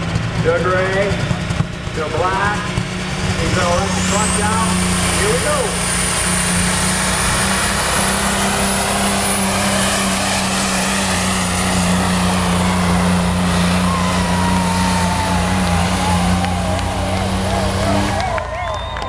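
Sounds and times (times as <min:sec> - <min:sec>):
diesel truck engine at full throttle: 0:00.0 - 0:19.0.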